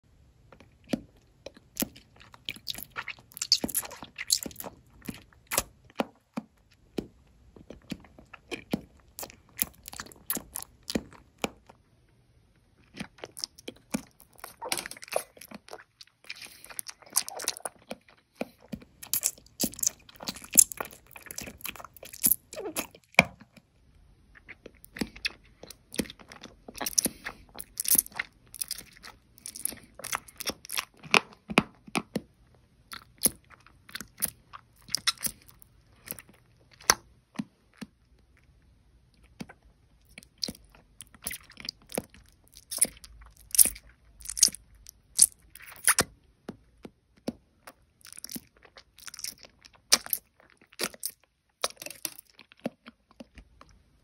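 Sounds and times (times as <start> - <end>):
chewing gummy candies: 0.4 - 54.0.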